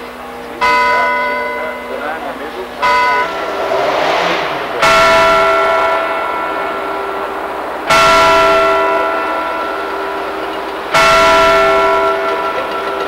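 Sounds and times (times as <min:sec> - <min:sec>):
clock tower bell ringing: 0:00.0 - 0:13.0.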